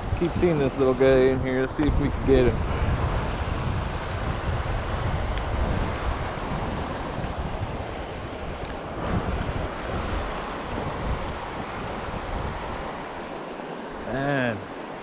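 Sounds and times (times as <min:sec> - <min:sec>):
water rushing over rocks: 0:00.0 - 0:15.0
wind buffeting microphone: 0:00.0 - 0:15.0.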